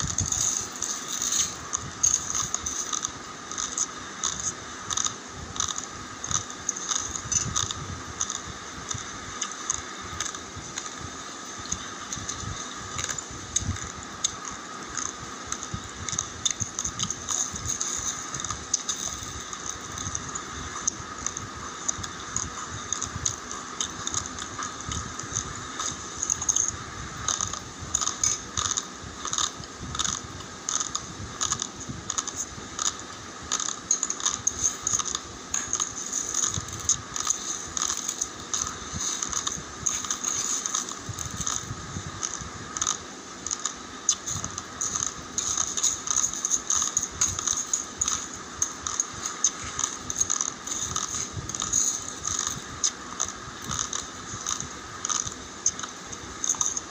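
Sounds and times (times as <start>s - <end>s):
rice grains clicking and rattling: 0.0s - 56.9s.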